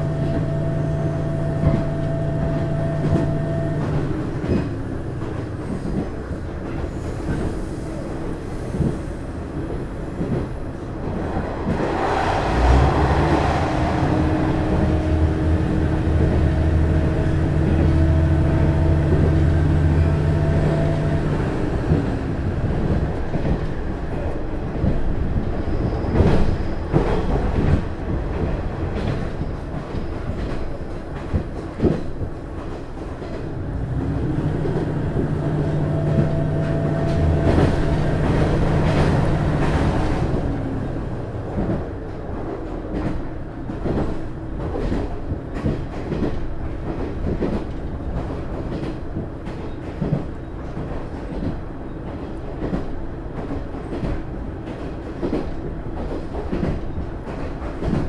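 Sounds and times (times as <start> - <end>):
diesel railcar engine drone: 0.0 - 58.0.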